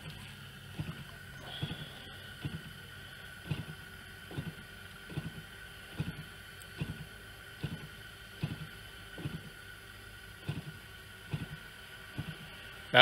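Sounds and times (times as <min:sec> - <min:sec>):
soft low thumps: 0:00.0 - 0:09.6, 0:10.4 - 0:12.6
steady high hum: 0:00.0 - 0:13.0.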